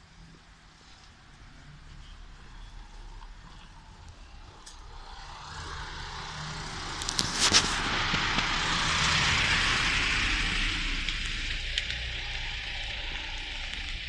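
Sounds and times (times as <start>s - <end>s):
motor vehicle running: 0.0s - 14.0s.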